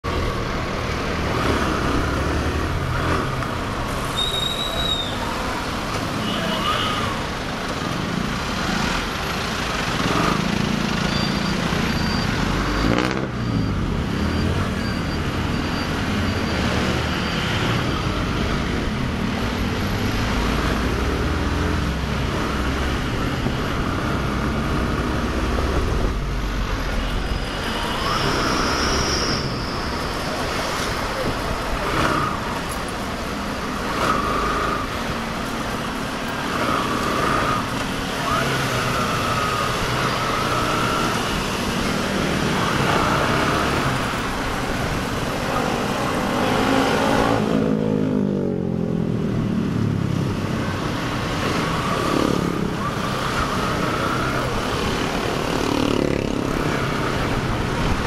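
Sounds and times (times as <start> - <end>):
cars and trucks passing: 0.0 - 58.0.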